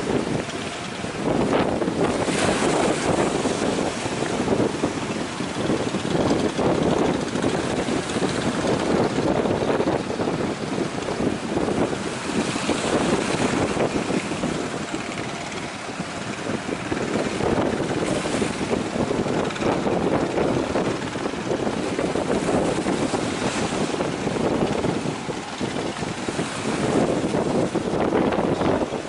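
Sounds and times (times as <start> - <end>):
sea surf: 0.0 - 29.0
wind buffeting microphone: 0.0 - 29.0.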